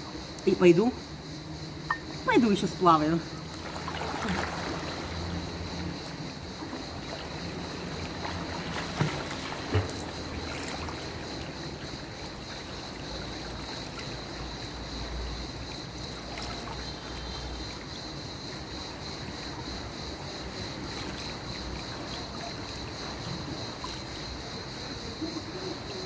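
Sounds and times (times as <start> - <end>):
pool water lapping and splashing: 2.1 - 26.0.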